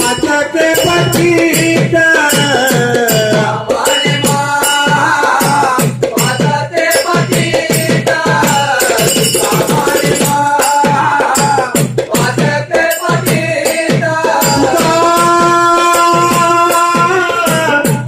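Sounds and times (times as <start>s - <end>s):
hand percussion beat: 0.0s - 18.0s
voices singing: 0.0s - 18.0s.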